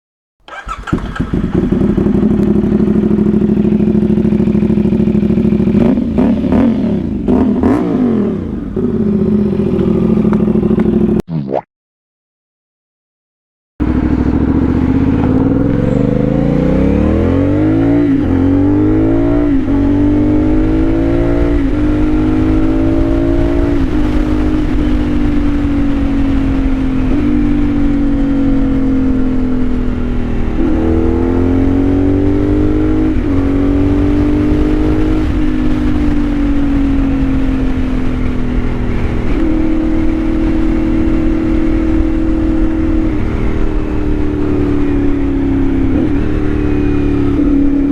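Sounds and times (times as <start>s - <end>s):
motorcycle engine revving: 0.4s - 11.2s, 13.8s - 47.9s.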